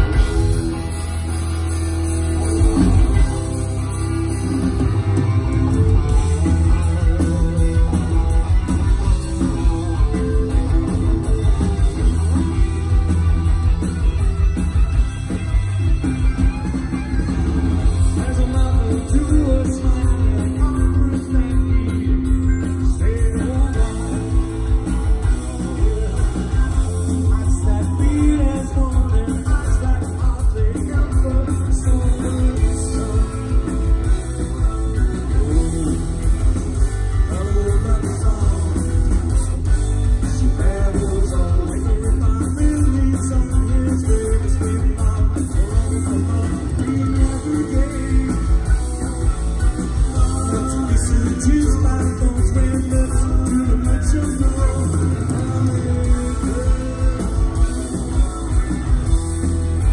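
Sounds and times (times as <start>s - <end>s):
bass: 0.0s - 59.9s
distorted electric guitars: 0.0s - 59.9s
drums: 0.0s - 59.9s
man singing: 5.9s - 13.0s, 17.8s - 58.9s.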